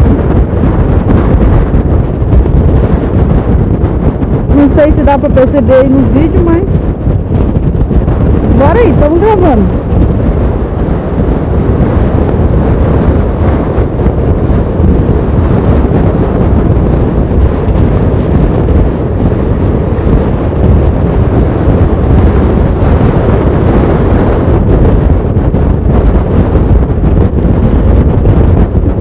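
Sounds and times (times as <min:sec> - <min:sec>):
motorcycle road noise: 0:00.0 - 0:29.0
wind buffeting microphone: 0:00.0 - 0:29.0.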